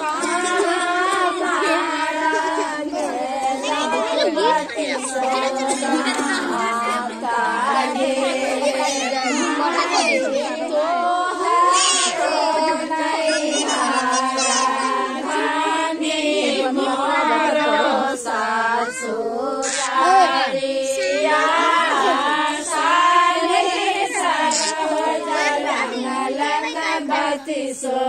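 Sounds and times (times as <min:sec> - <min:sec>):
women and girls singing: 0:00.0 - 0:28.0.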